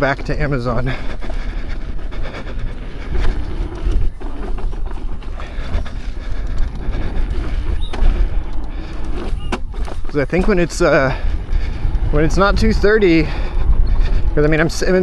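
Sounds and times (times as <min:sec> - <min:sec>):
suspension knocks and rattles: 0:00.0 - 0:13.4
unicycle rumbling on dirt trail: 0:00.0 - 0:15.0.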